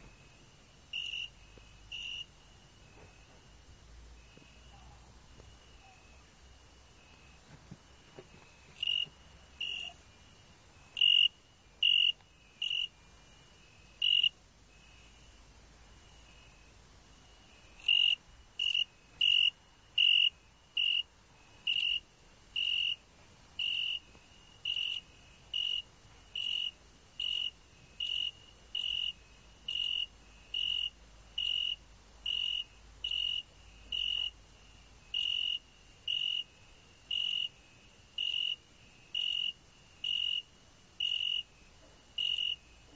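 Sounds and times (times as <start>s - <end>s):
cricket chirping: 0.0s - 42.9s.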